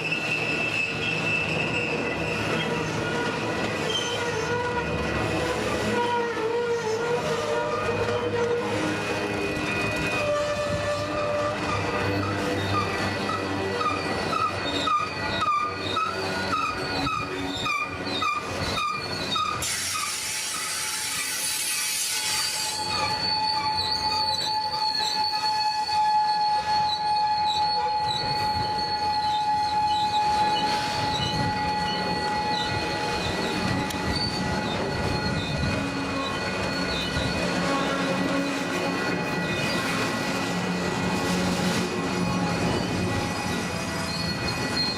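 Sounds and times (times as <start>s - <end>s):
train wheel squeal: 0.0s - 44.9s.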